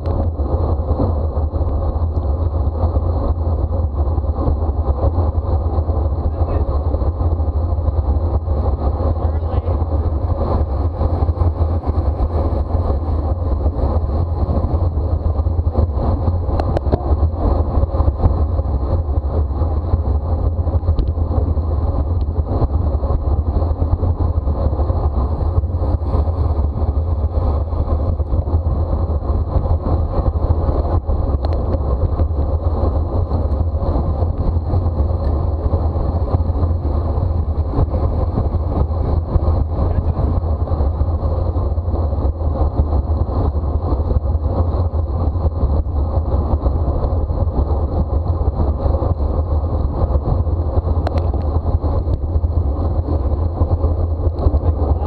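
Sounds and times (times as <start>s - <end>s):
high whine: 0.0s - 55.0s
wind rush on microphone: 0.0s - 55.0s.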